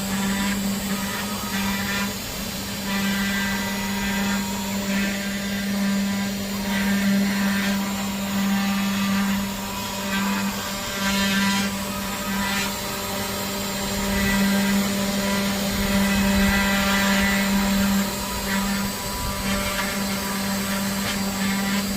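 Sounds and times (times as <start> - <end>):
rasping cutting through wood: 0.0 - 21.9
router spindle hum: 0.0 - 21.9.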